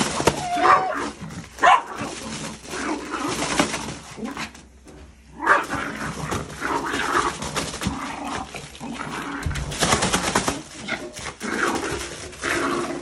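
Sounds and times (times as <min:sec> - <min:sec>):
dog growling: 0:00.0 - 0:04.6, 0:05.3 - 0:13.0
plastic crinkling: 0:00.0 - 0:04.7, 0:05.4 - 0:13.0.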